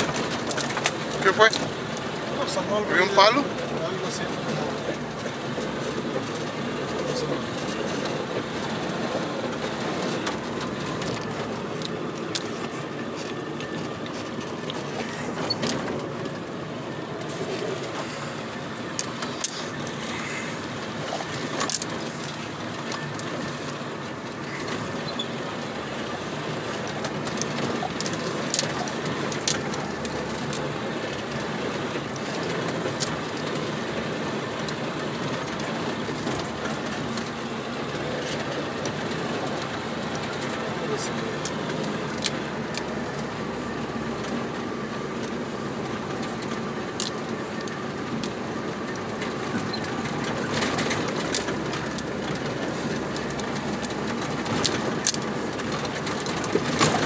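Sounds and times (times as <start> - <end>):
cab rattling and knocking: 0.0 - 57.0
tyres rumbling on dirt: 0.0 - 57.0.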